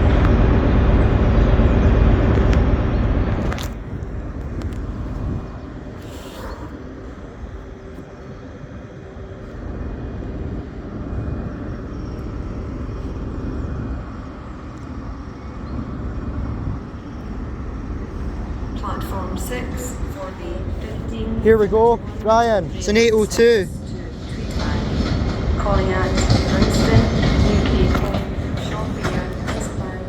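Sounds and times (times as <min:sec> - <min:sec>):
low rumble of trains: 0:00.0 - 0:30.0.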